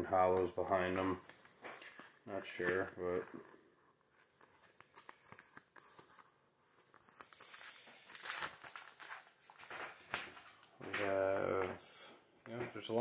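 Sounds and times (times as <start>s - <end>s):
cards rustling: 0.1s - 11.7s.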